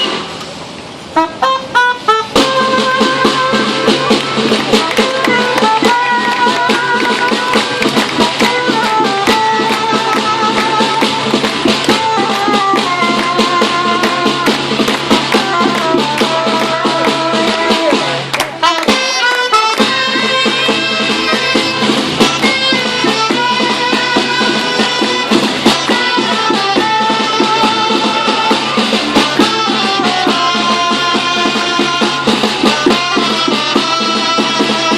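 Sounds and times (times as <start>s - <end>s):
rapid percussion: 1.1s - 34.9s.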